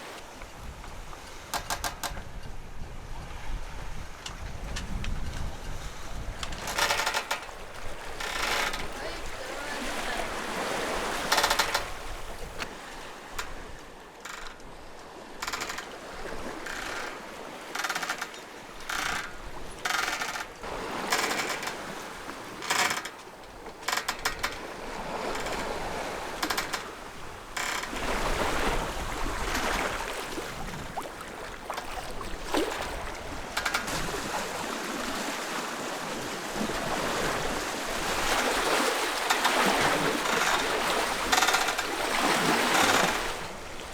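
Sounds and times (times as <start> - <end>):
water rushing along boat hull: 0.0 - 43.9.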